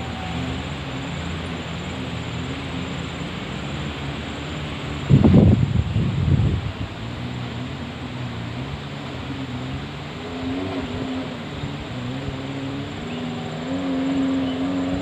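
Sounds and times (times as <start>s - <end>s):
off-road vehicle engine running: 0.0s - 15.0s
steady rushing noise: 0.0s - 15.0s.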